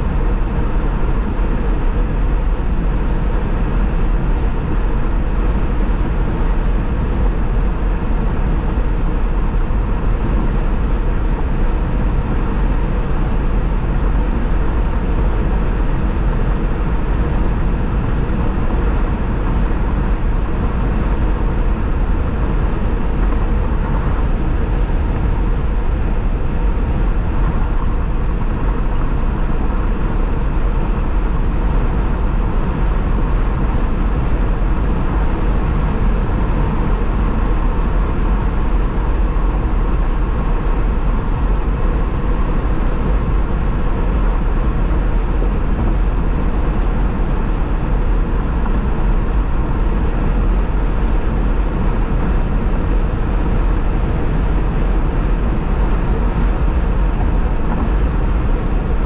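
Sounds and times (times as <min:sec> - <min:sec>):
car road noise at speed: 0:00.0 - 0:59.0.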